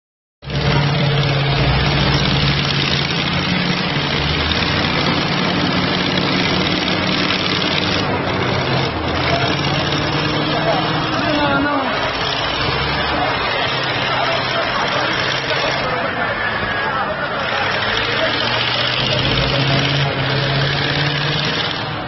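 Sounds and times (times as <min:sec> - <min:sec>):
diesel engine running: 0:00.4 - 0:22.0.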